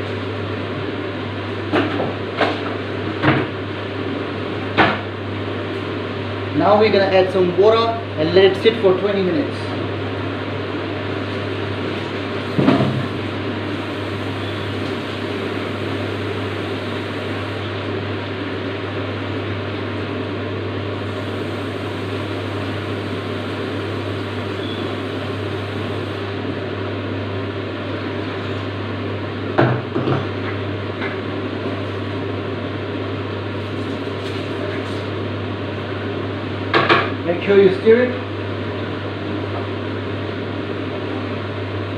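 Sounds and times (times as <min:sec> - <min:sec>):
whirring kitchen hum: 0:00.0 - 0:41.9.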